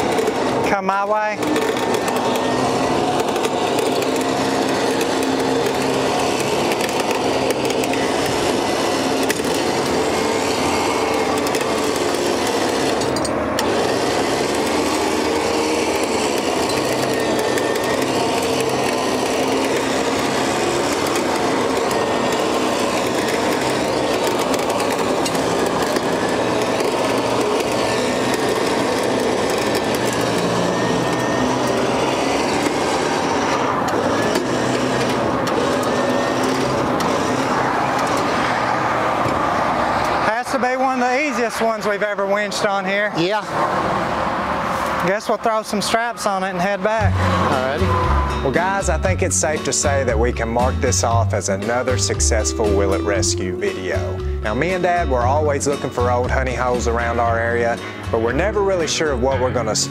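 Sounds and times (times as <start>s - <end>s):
electric winch motor whine: 0.0s - 59.9s.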